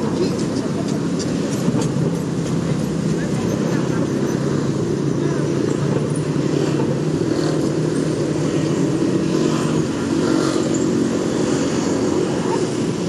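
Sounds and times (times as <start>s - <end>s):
motorcycle and car engines: 0.0s - 13.0s.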